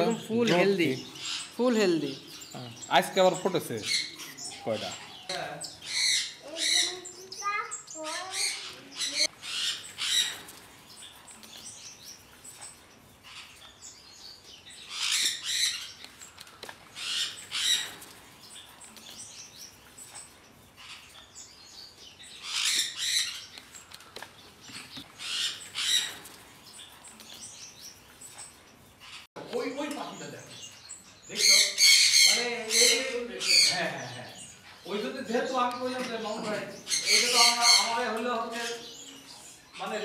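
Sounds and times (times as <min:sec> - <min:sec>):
caged birds chirping and twittering: 0:00.0 - 0:40.0.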